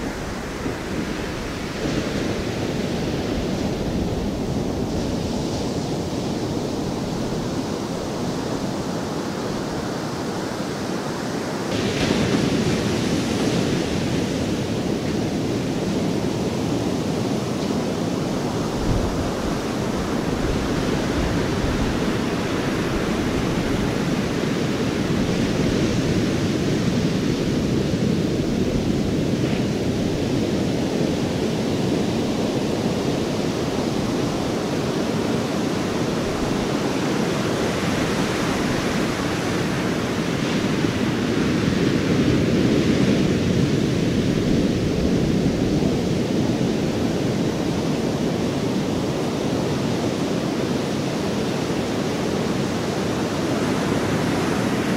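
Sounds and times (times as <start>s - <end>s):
ocean waves rushing: 0.0s - 54.9s.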